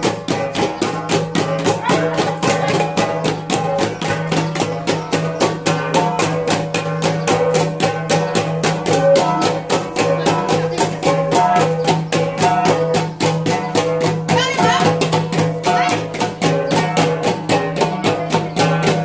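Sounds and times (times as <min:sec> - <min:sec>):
flat gongs ringing strikes: 0:00.0 - 0:19.0.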